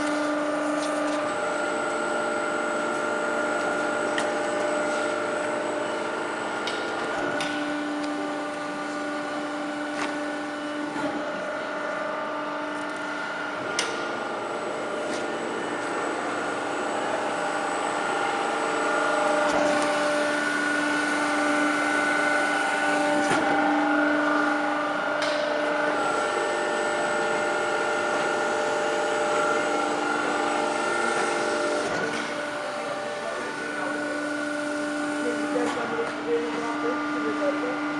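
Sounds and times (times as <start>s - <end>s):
factory machinery whining hum: 0.0s - 37.9s.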